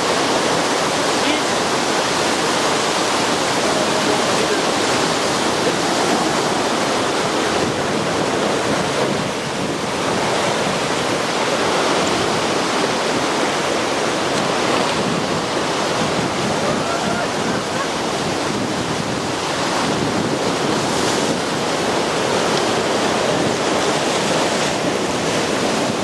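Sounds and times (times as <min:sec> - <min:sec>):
ocean surf breaking on rocks: 0:00.0 - 0:26.0.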